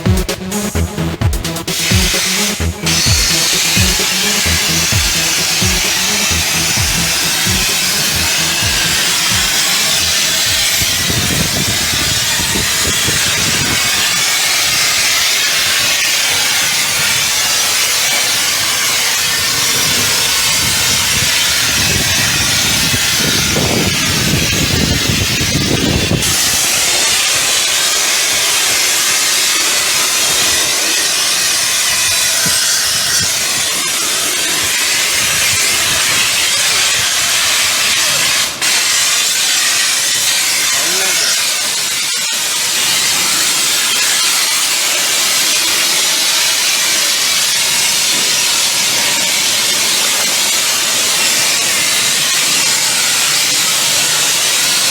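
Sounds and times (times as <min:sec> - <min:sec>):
pressure washer jet hissing: 0:00.0 - 0:54.9.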